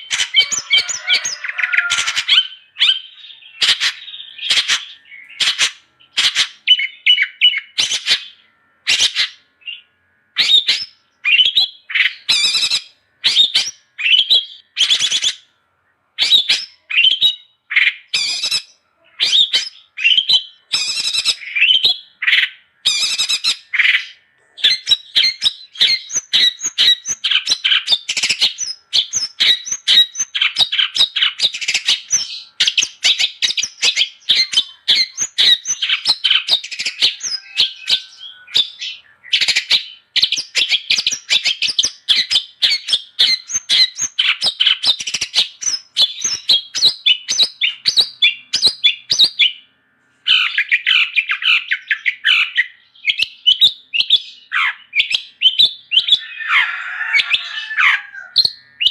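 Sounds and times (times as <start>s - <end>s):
bird chirping and squawking: 0.0s - 15.5s, 16.2s - 49.7s, 50.3s - 58.9s.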